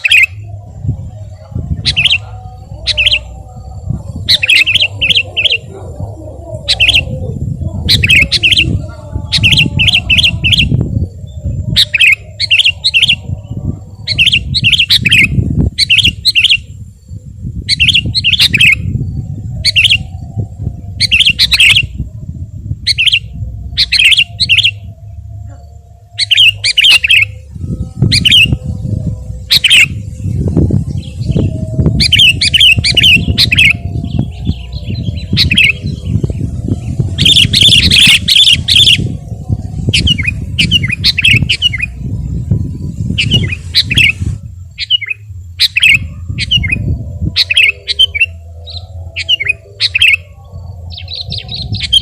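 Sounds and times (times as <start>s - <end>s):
bulbul singing: 0.0s - 52.0s
steady low rumble: 0.0s - 52.0s.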